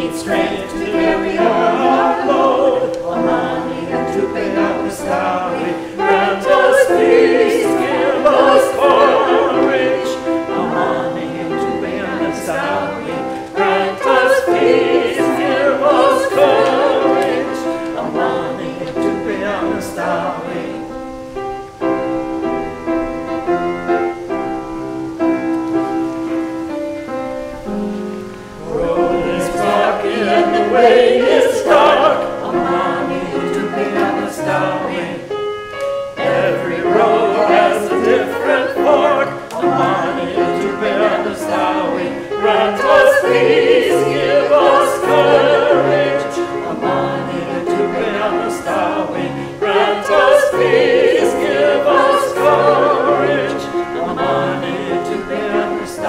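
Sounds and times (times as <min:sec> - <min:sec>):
group singing a church song: 0:00.0 - 0:26.4, 0:27.6 - 0:56.0
piano accompaniment: 0:00.0 - 0:56.0.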